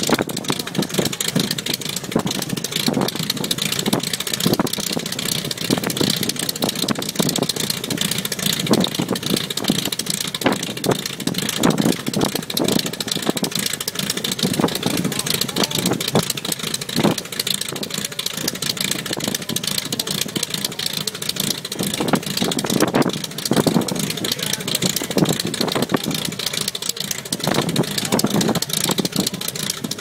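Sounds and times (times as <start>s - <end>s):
propeller engine idling: 0.0s - 30.0s.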